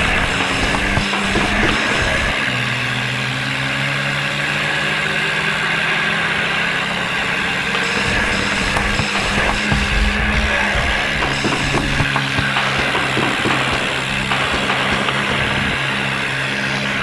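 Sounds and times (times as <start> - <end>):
tractor diesel engine running: 0.0 - 3.2, 5.9 - 17.0.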